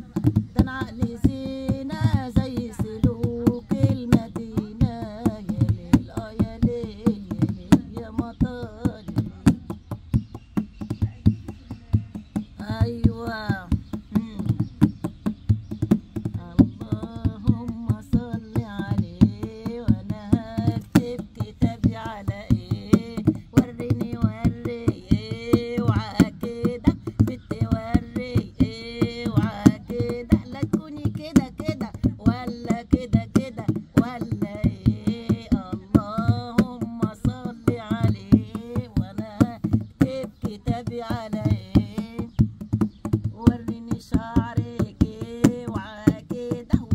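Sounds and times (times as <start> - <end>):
woman singing: 0.0 - 9.9, 12.1 - 15.0, 15.8 - 46.9
goblet drum rhythm: 0.0 - 46.9.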